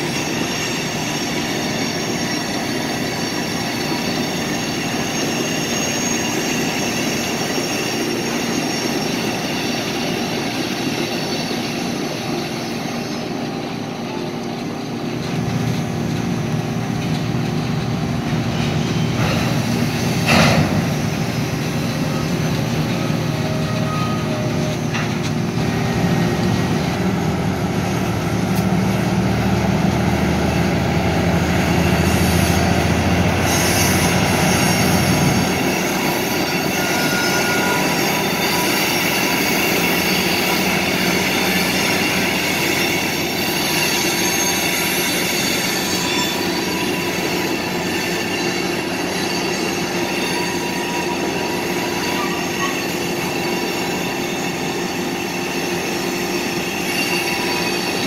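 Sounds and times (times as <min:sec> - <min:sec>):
train wheels squealing and clacking: 0:00.0 - 0:58.0.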